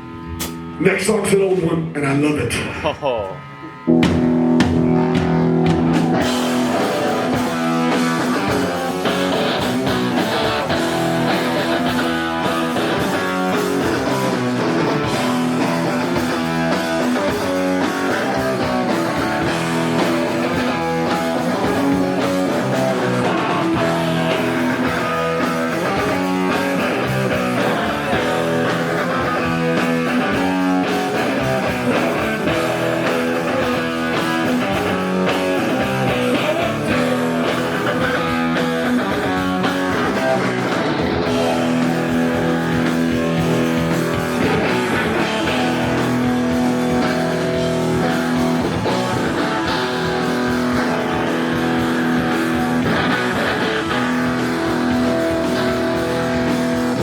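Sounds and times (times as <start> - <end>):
drum kit: 0.0 - 1.9, 3.6 - 57.0
bass guitar: 0.0 - 57.0
distorted electric guitars: 0.0 - 57.0.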